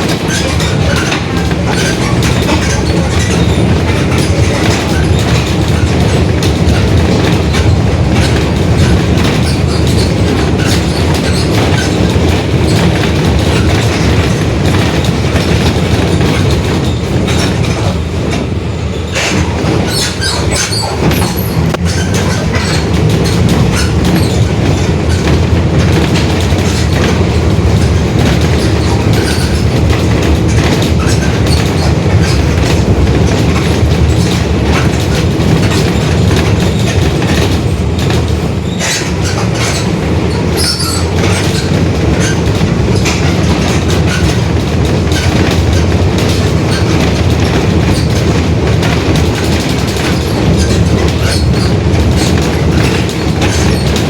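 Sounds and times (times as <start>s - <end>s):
constant rattling: 0.0s - 54.0s.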